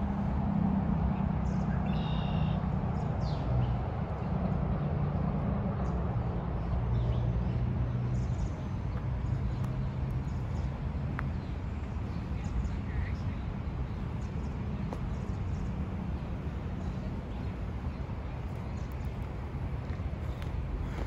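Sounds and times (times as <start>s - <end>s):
road traffic hum: 0.0s - 21.0s.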